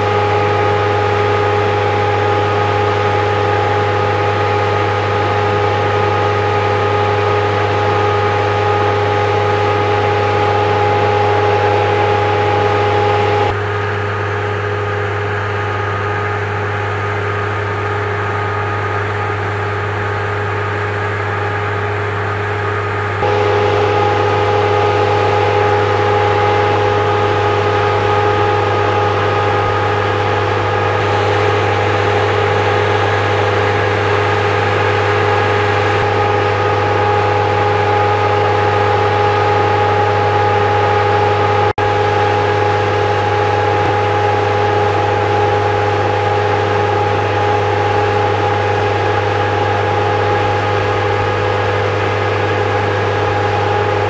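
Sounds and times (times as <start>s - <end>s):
engine droning steadily: 0.0s - 54.0s.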